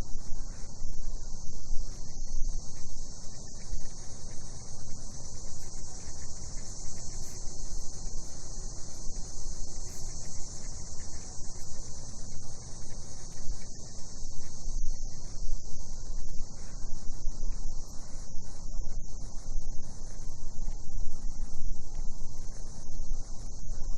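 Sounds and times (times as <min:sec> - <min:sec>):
cicadas chorus: 0:00.0 - 0:23.9.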